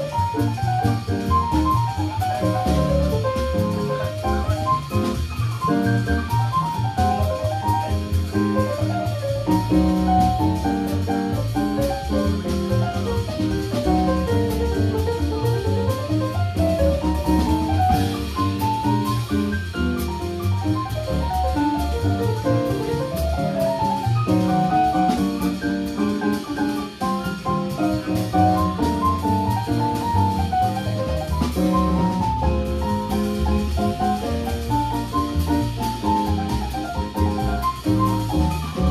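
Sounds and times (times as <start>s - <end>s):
bass line: 0.0s - 38.9s
drum kit cymbals: 0.0s - 38.9s.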